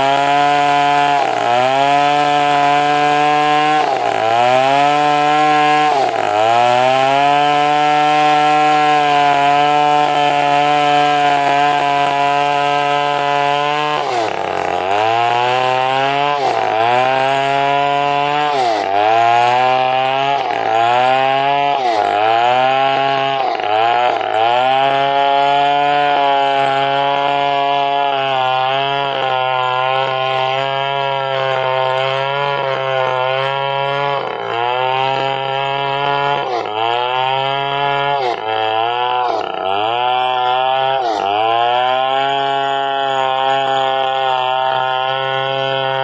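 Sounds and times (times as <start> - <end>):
chainsaw cutting log: 0.0 - 46.0.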